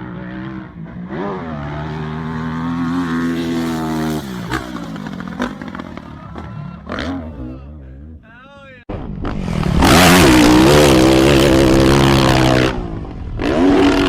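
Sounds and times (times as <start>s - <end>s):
dirt bike engine revving: 0.0s - 8.2s, 9.2s - 14.0s.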